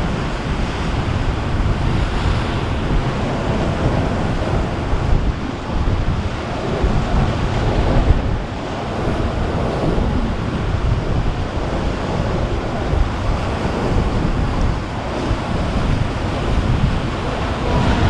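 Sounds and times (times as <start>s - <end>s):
surf washing against rocks: 0.0s - 18.0s
wind buffeting microphone: 0.0s - 18.0s.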